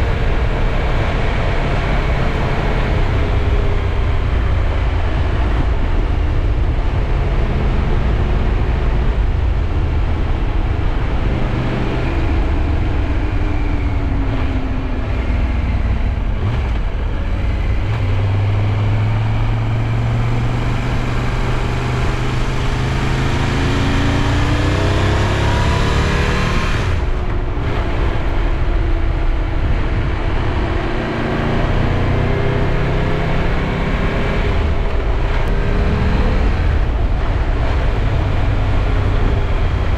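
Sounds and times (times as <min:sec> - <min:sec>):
wind rush on microphone: 0:00.0 - 0:32.6, 0:34.3 - 0:39.9
motorcycle engine accelerating: 0:00.0 - 0:39.9.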